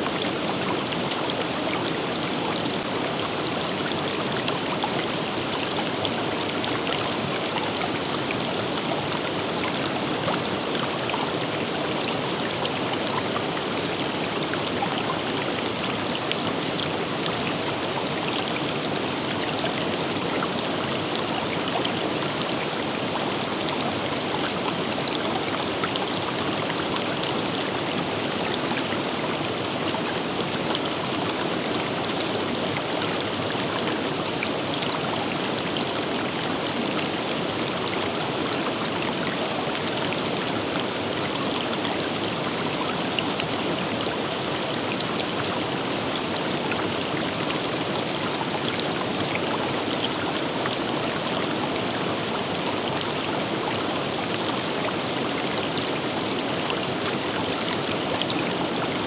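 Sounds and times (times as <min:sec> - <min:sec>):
river flowing over rocks: 0:00.0 - 0:59.0
water splashes and trickles: 0:00.0 - 0:59.0.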